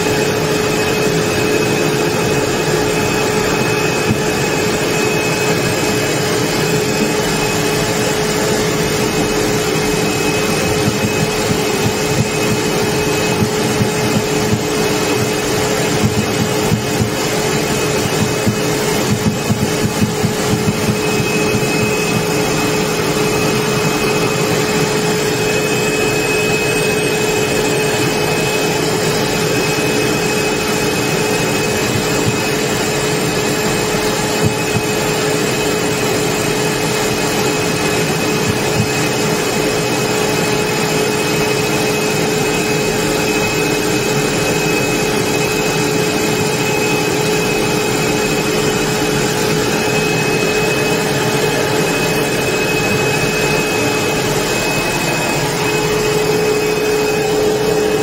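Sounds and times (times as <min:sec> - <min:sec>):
jet engine whining: 0:00.0 - 0:58.0.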